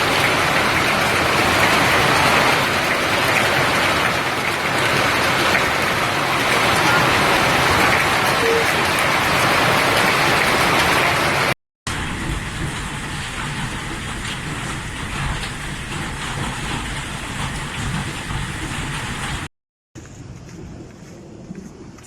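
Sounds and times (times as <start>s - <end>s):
heavy hail pelting down: 0.0s - 19.5s.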